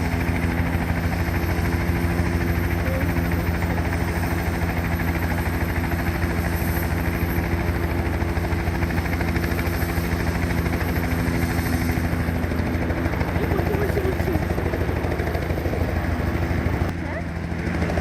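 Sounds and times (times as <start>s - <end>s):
helicopter rotor beating: 0.0s - 18.0s
high turbine whine: 0.0s - 18.0s.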